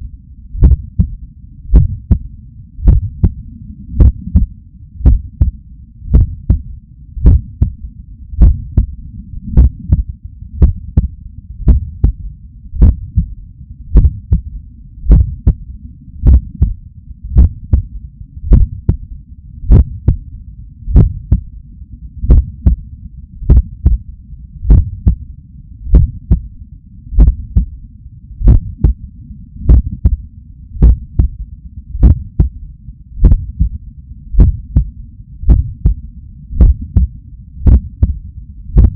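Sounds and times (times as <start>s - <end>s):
low steady rumble: 0.0s - 38.9s
heartbeat through stethoscope: 0.6s - 7.8s, 8.4s - 13.3s, 13.9s - 17.9s, 18.5s - 19.1s, 19.7s - 20.3s, 20.9s - 21.5s, 22.2s - 25.3s, 25.9s - 26.5s, 27.1s - 27.8s, 28.4s - 29.0s, 29.6s - 30.2s, 30.8s - 32.6s, 33.2s - 38.9s.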